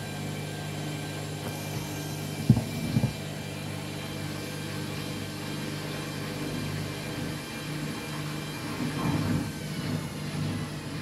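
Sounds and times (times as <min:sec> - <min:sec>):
washing machine drum spinning: 0:00.0 - 0:11.0.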